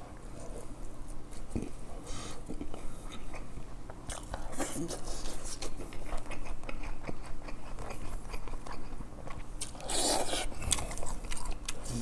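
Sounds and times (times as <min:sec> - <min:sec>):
person chewing food: 0:00.3 - 0:12.0.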